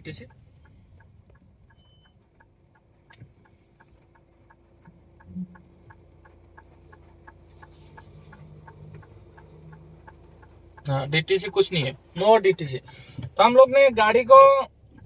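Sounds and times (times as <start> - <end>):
car indicator relay ticking: 0.0 - 15.0
idling engine hum: 0.0 - 15.0.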